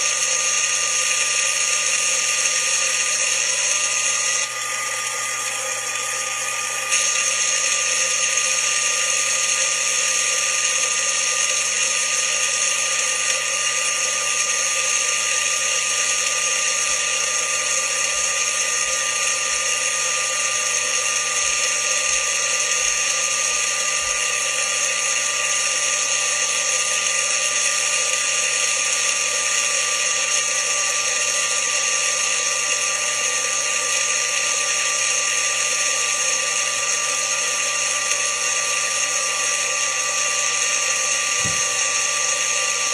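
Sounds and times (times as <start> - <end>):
blender motor running: 0.0 - 42.9.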